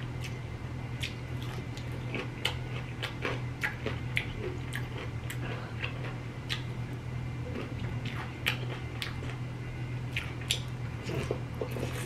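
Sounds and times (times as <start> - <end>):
steady low hum: 0.0 - 12.0
crunchy chewing: 1.0 - 9.5, 10.1 - 12.0.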